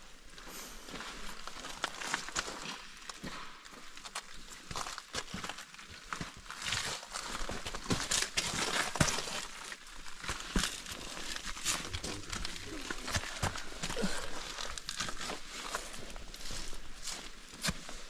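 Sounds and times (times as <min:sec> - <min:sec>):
footsteps on loose rock: 0:01.3 - 0:18.0.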